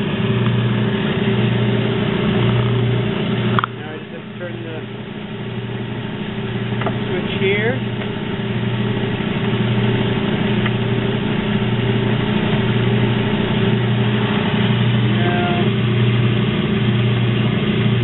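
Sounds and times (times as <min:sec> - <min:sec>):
saw motor hum: 0:00.0 - 0:18.0.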